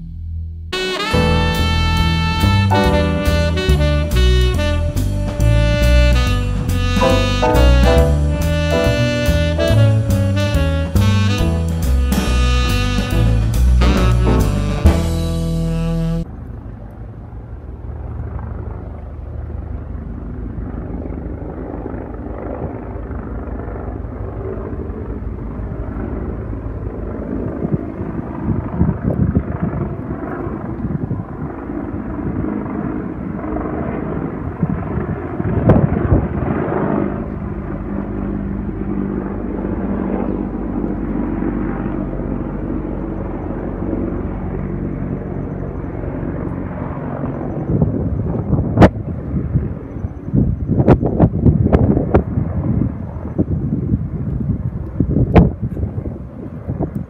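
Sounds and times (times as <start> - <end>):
helicopter flying overhead: 0.8 - 57.0.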